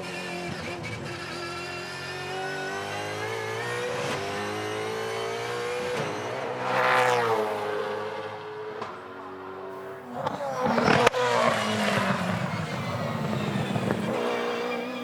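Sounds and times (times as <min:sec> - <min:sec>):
racing engine at full throttle: 0:00.0 - 0:15.0.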